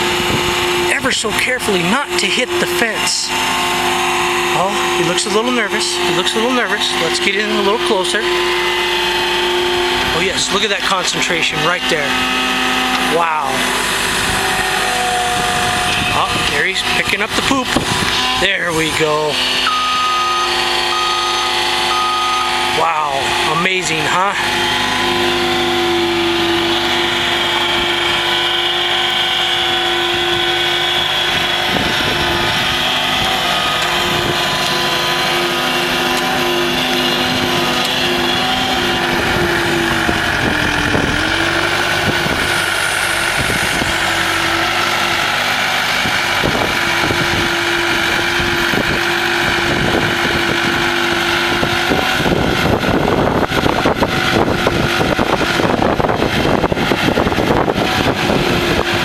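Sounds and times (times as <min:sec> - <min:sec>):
loader engine running: 0:00.0 - 0:59.0.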